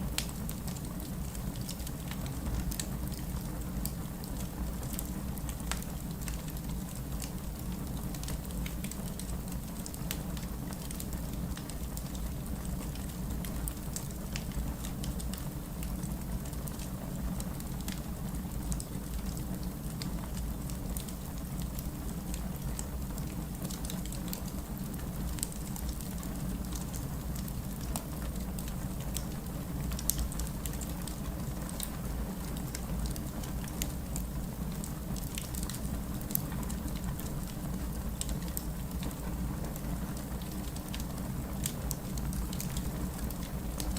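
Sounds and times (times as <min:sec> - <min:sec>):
steady rain: 0:00.0 - 0:43.9
fireplace crackling: 0:00.1 - 0:43.9.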